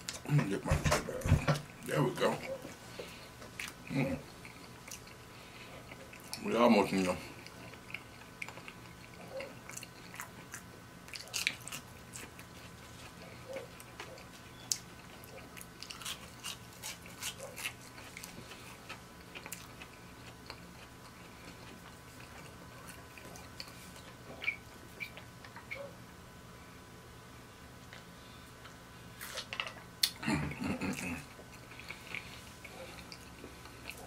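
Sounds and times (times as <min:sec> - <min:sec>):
chewing crispy fries: 0:01.7 - 0:26.0, 0:27.8 - 0:34.0.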